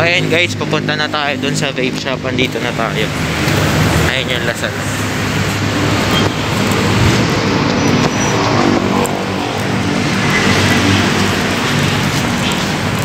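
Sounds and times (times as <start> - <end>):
traffic hum: 0.0 - 13.0
vehicle engine running: 0.0 - 13.0.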